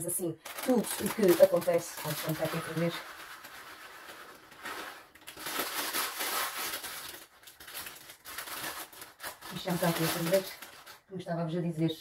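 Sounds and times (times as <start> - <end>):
kitchen rustling and clattering: 0.4 - 11.1.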